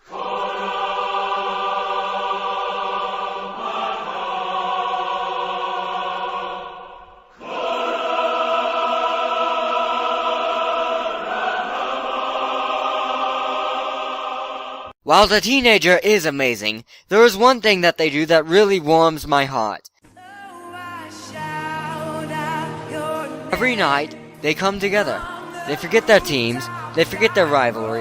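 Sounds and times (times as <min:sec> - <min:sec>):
choir singing long chords: 0:00.0 - 0:15.0, 0:20.1 - 0:28.0.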